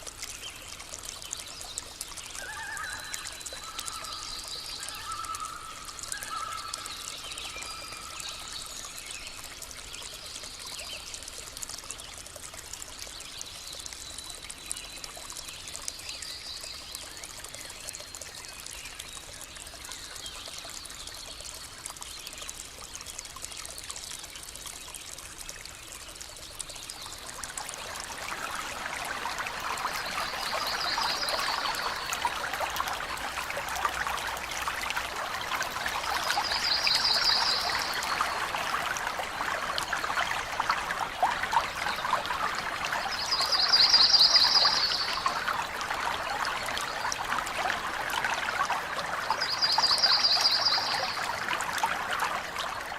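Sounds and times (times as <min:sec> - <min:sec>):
stream water trickling: 0:00.0 - 0:52.9.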